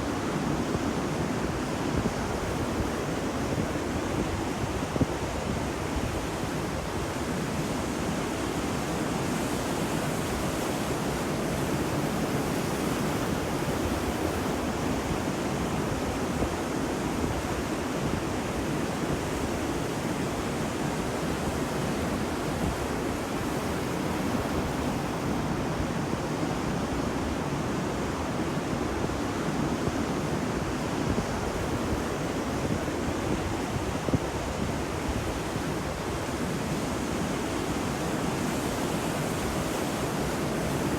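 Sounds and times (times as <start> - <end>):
ocean waves on a beach: 0.0 - 40.9.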